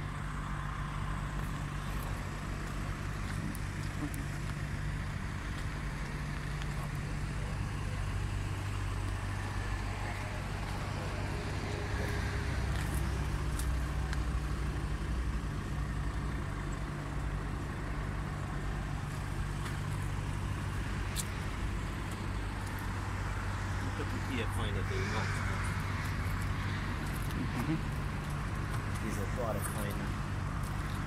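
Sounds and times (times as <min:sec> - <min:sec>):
road traffic: 0:00.0 - 0:31.0
vehicle engine idling: 0:00.0 - 0:31.0.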